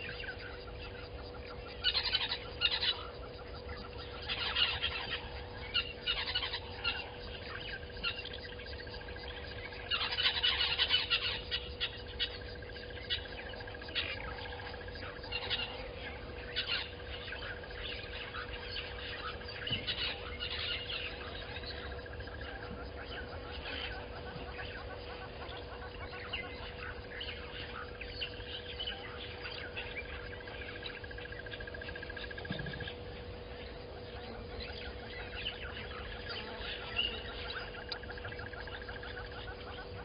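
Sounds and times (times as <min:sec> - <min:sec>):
steady low hum: 0:00.0 - 0:40.0
wild birds chirping: 0:00.0 - 0:40.0.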